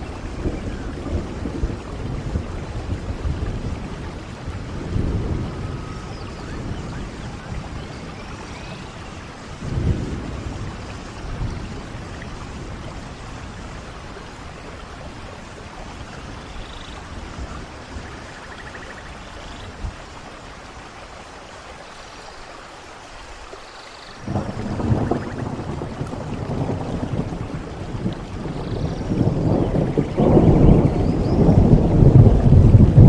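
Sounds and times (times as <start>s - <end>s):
thunder rumbling: 0.0s - 20.2s, 24.2s - 33.0s
steady rainfall: 0.0s - 33.0s.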